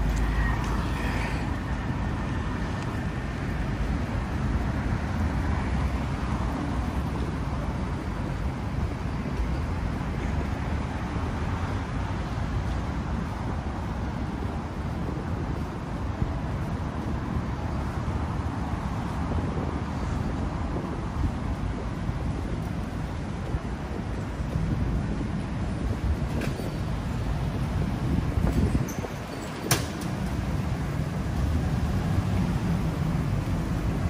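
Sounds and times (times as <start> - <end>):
rumble of passing cars: 0.0 - 34.0.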